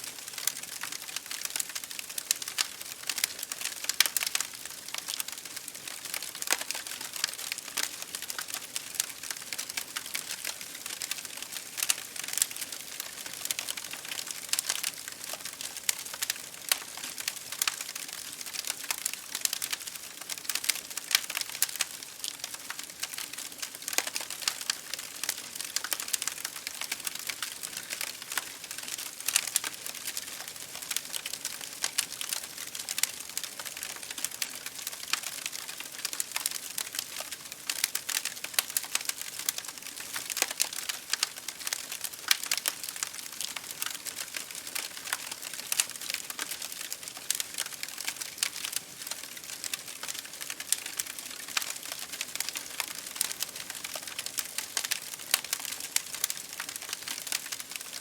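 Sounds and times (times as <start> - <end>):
rain hissing against a window: 0.0 - 58.0
wood fire crackling: 0.0 - 58.0.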